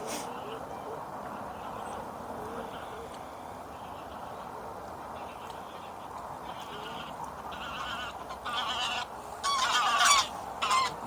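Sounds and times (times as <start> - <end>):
geese honking: 0.1 - 11.0.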